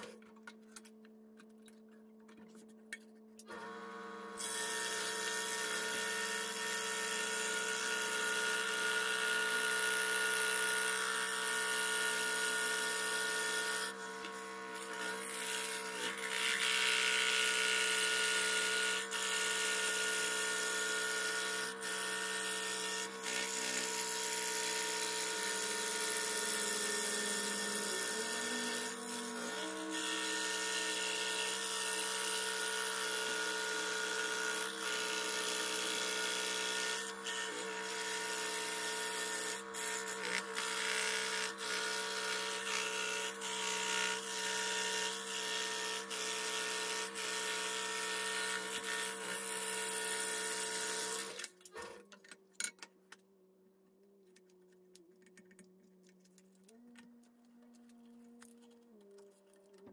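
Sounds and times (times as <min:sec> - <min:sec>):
scroll saw cutting wood: 0:03.4 - 0:52.2.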